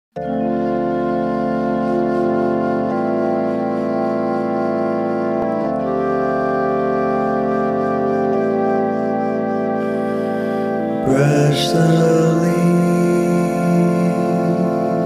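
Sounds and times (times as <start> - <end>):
held instrumental chords: 0.1 - 15.0
bass line: 0.2 - 15.0.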